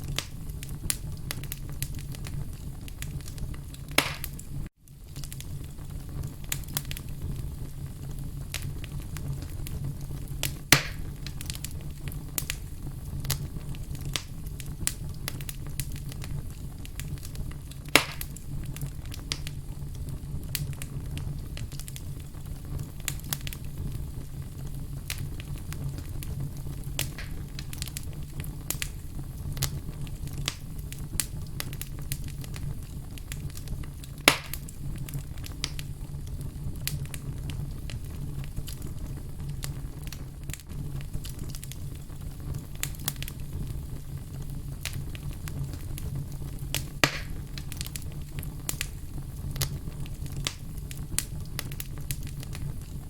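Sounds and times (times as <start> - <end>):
fire crackling: 0.0 - 53.0
low rumble of flame: 0.0 - 53.0
sharp pops from fire: 0.0 - 53.0.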